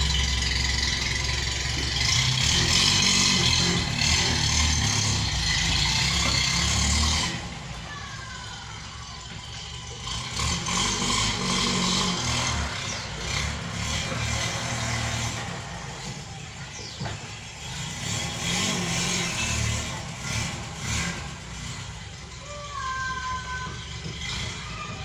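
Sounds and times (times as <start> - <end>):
car engine running: 0.0 - 25.0
road noise: 0.0 - 25.0.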